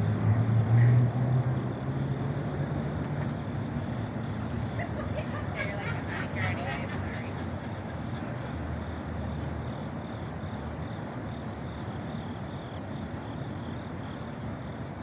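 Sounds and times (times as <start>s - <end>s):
distant traffic rumble: 0.0s - 14.8s.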